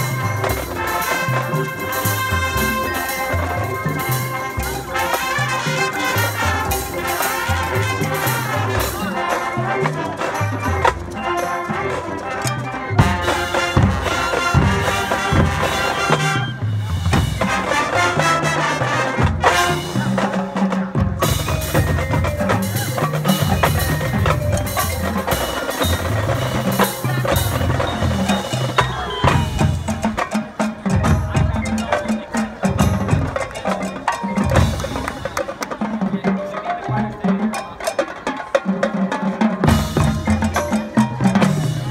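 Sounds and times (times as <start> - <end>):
marching band winds: 0.0 - 36.3
drumline: 0.0 - 41.9
marimbas and mallet percussion: 0.0 - 41.9.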